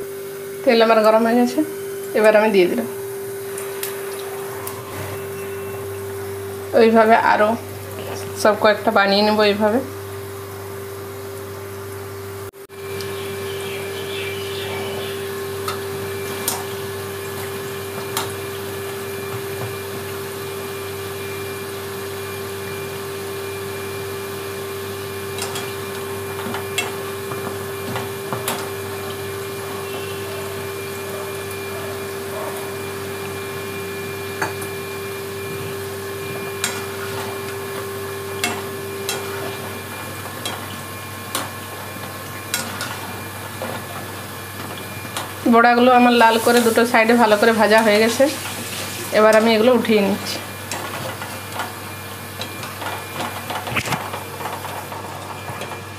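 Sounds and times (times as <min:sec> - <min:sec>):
food deep-frying in oil: 0:00.0 - 0:55.9
steady mechanical hum: 0:00.0 - 0:55.9.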